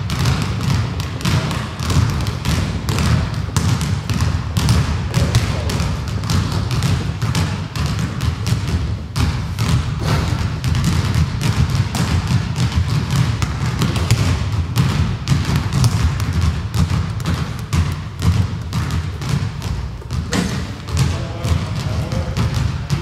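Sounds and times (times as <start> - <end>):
basketballs bouncing on hardwood floor: 0.0 - 23.0.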